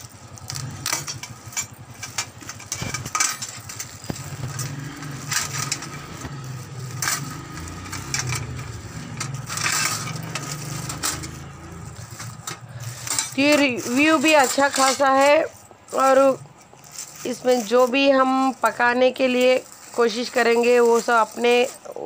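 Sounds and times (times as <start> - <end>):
metal parts clinking: 0.0 - 22.0
plastic wrapping crinkling: 0.0 - 22.0.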